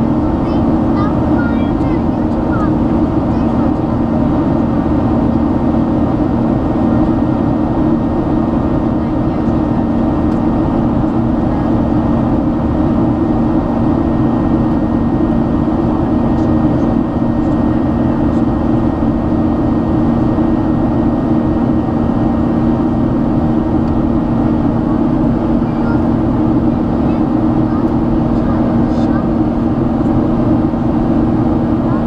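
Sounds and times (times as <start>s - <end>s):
jet engines droning in cabin: 0.0s - 32.0s
steady low hum: 0.0s - 32.0s.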